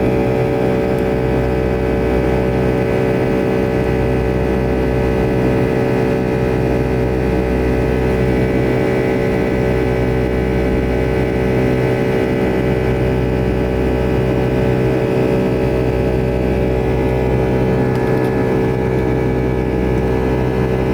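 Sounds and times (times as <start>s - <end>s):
jet engines droning: 0.0s - 20.9s.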